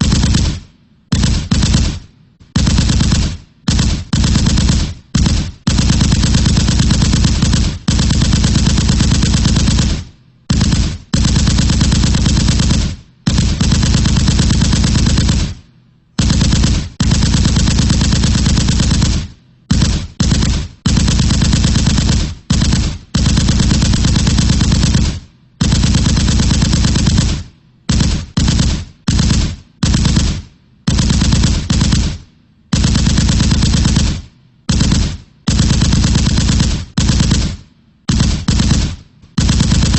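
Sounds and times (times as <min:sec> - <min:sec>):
machine gun firing bursts: 0:00.0 - 0:39.9.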